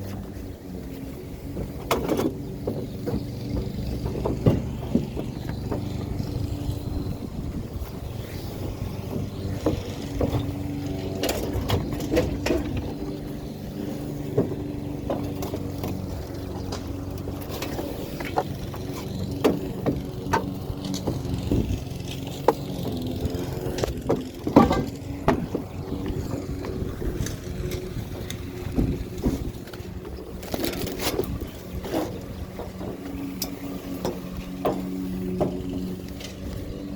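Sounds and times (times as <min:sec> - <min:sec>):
vehicle engine running: 0:00.0 - 0:36.9
knocks and rattles: 0:01.5 - 0:07.9, 0:08.5 - 0:36.4.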